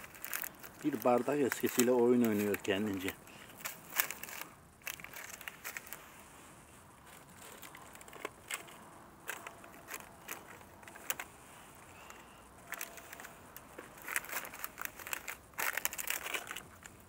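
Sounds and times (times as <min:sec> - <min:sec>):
plastic cup crinkling: 0:00.0 - 0:17.0.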